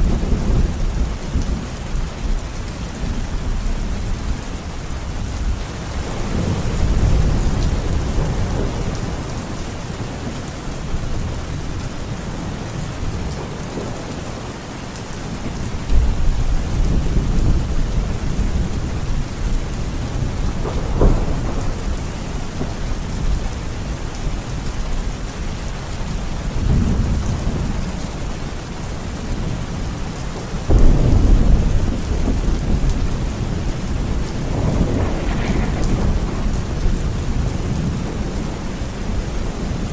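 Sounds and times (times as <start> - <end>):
low thunder rumbling: 0.0 - 12.2, 15.2 - 39.9
heavy rain: 0.0 - 39.9.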